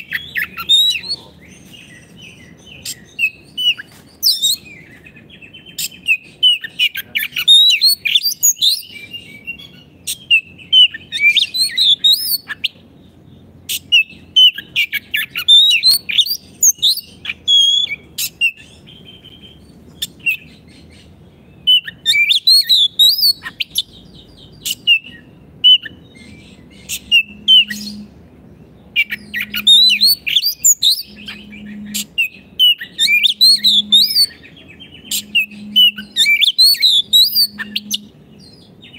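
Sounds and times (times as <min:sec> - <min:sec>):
bird singing whistled phrases: 0:00.0 - 0:12.8, 0:13.7 - 0:21.0, 0:21.6 - 0:28.1, 0:29.0 - 0:38.9.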